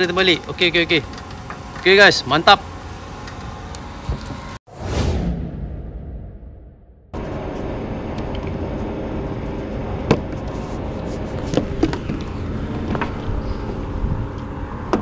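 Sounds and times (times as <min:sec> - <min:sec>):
low rumble with engine hum: 0:00.0 - 0:04.6, 0:07.2 - 0:15.0.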